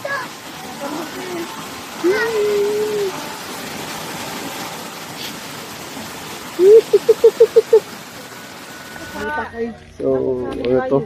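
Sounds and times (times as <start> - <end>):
stream splashing over stones: 0.0 - 9.4.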